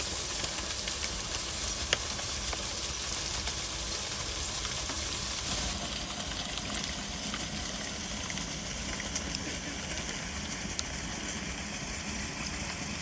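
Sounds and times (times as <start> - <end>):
hiss of spraying water: 0.0 - 13.0.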